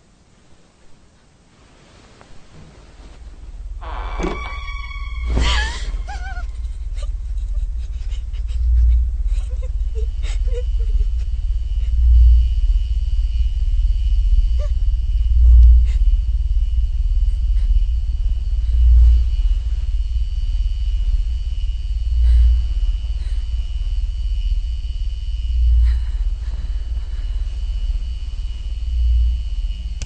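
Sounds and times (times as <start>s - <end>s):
faint high whine: 0.0s - 30.0s
deep low rumble: 2.7s - 30.0s.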